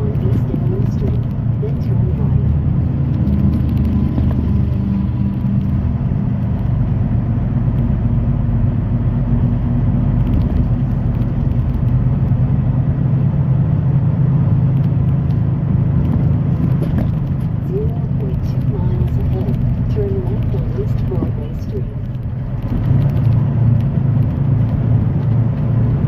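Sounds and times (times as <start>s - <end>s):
diesel truck engine running: 0.0s - 26.0s
road rumble: 0.0s - 26.0s.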